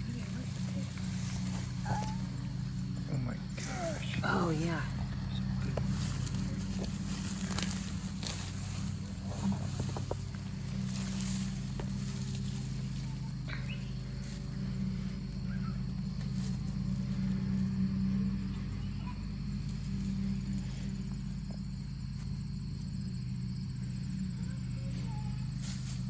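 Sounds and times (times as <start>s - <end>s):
faint ticks and scrapes: 0.0s - 26.0s
low machine hum: 0.0s - 26.0s.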